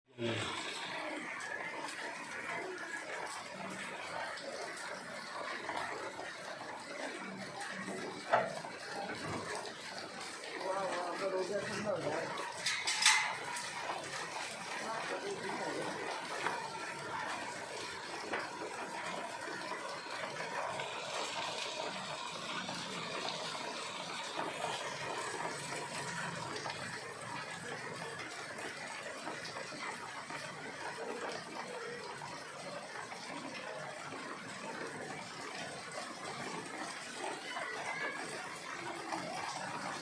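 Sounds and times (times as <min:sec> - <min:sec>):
rain falling steadily: 0:00.1 - 0:40.0.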